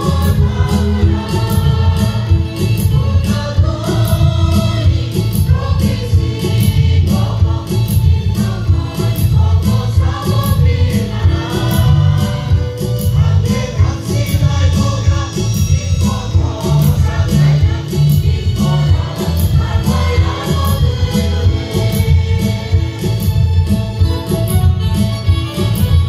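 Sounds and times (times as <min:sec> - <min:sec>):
backing music with heavy bass: 0:00.0 - 0:26.0
choir singing gospel song: 0:00.0 - 0:26.0.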